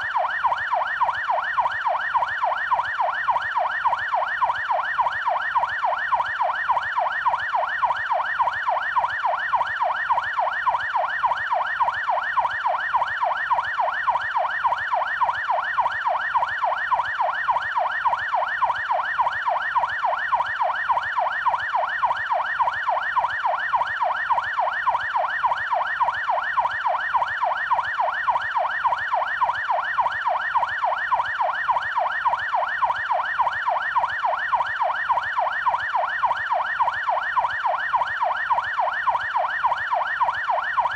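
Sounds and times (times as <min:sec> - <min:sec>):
police siren yelp: 0:00.0 - 0:40.9.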